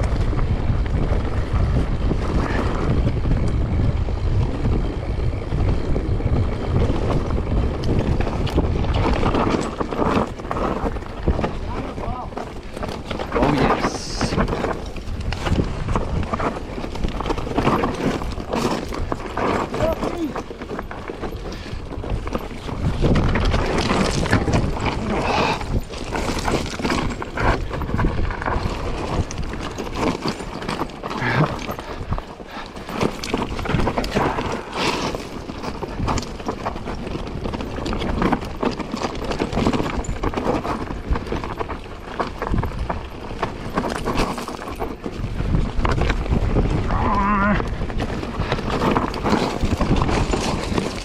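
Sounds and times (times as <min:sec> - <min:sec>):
bike rattling over rocks: 0:00.0 - 0:51.0
tyre noise rushing: 0:00.0 - 0:51.0.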